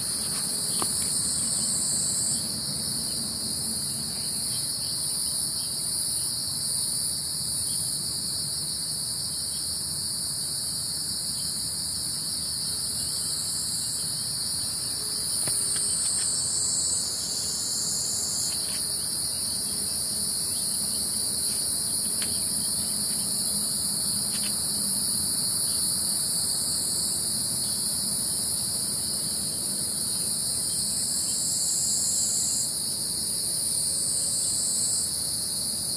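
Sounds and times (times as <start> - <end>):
higher insect layer: 0.0 - 35.9
insects buzzing shrilly: 0.0 - 35.9.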